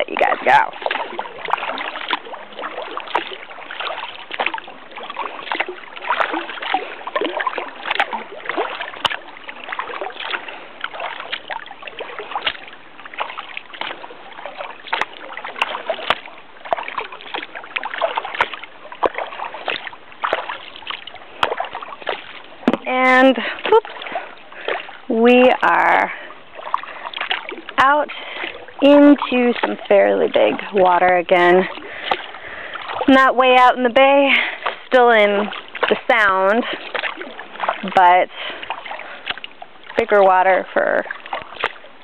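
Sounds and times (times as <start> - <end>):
paddle splashing into water: 0.0 - 42.0
water rushing along hull: 0.0 - 42.0.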